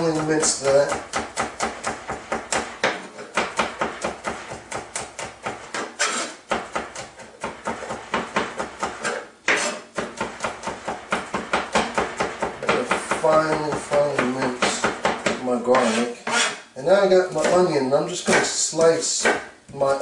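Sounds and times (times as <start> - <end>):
knife chopping on plastic board: 0.0 - 16.6, 17.3 - 20.0.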